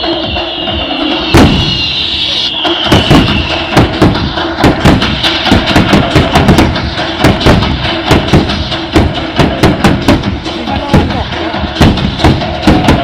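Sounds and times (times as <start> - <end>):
music: 0.0 - 13.0
fireworks thuds: 1.3 - 2.0, 2.8 - 13.0.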